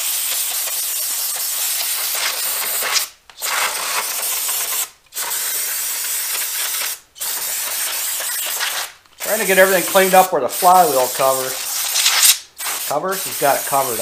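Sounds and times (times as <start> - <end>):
aerosol spray can hissing: 0.0 - 14.0.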